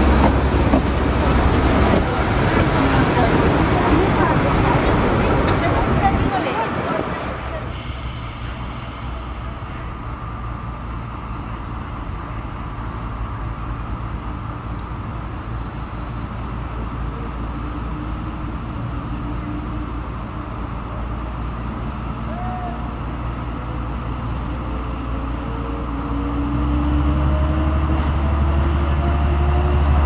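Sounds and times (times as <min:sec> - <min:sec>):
diesel locomotive droning: 0:00.0 - 0:30.0.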